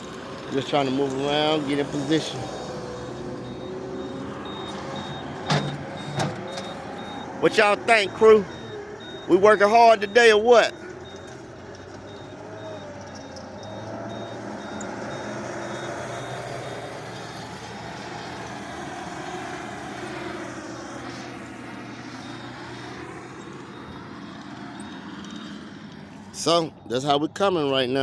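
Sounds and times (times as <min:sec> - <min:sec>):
track loader engine under load: 0:00.0 - 0:28.0.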